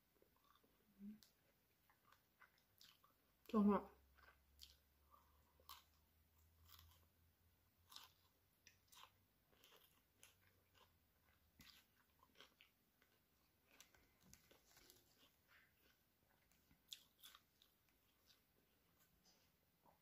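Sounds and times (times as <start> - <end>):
person chewing food: 0.1 - 20.0.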